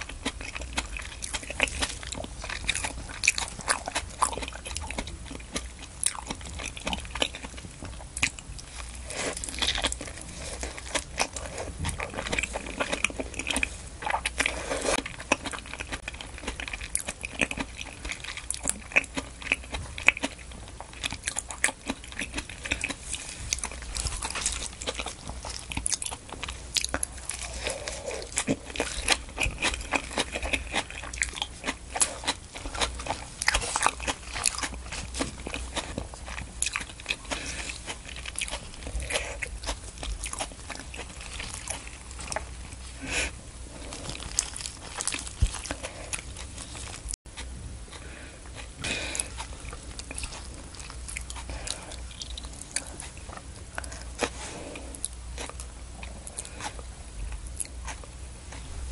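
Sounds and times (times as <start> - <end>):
biting and chewing: 0.0 - 58.9.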